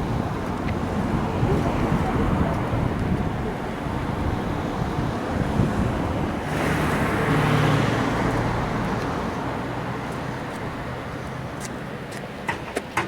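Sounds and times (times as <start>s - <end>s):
wind noise on microphone: 0.0s - 11.6s
vehicle passing: 0.0s - 11.7s.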